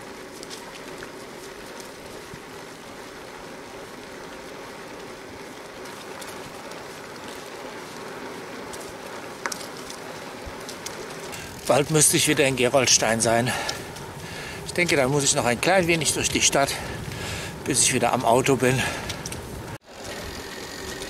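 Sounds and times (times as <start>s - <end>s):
bicycle tyres rolling on asphalt: 0.0s - 21.0s.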